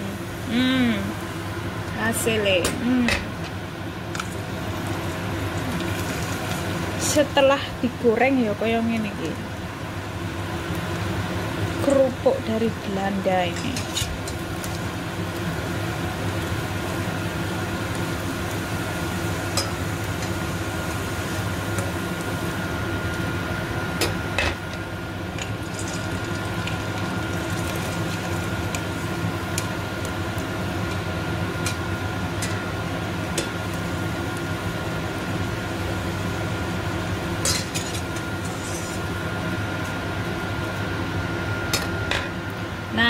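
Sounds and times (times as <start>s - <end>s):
extractor fan humming and whining: 0.0s - 43.0s
frying oil: 0.0s - 43.0s.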